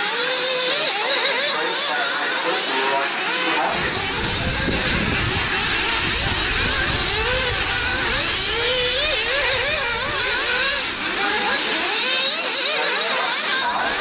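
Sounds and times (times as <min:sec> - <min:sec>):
rc car engines whining: 0:00.0 - 0:14.0.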